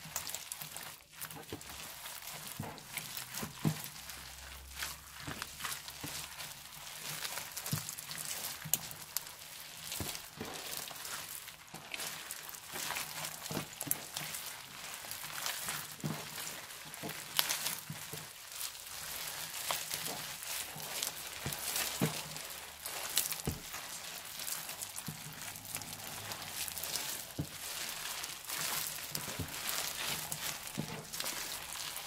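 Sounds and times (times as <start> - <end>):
foam slime crackling: 0.0 - 32.0.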